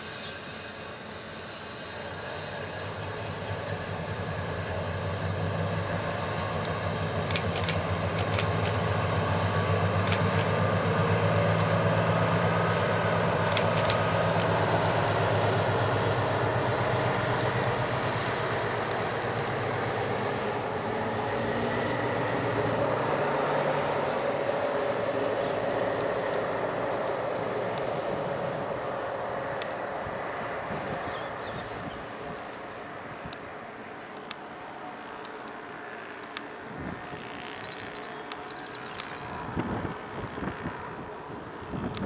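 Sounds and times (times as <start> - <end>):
diesel locomotive hum: 0.0 - 42.0.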